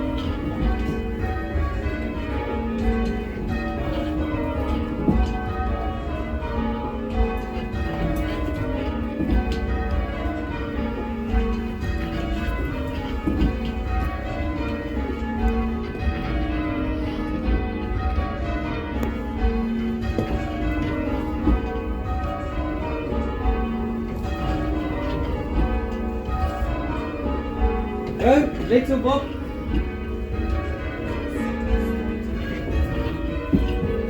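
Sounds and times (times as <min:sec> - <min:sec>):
church bells ringing in rounds: 0:00.0 - 0:34.0.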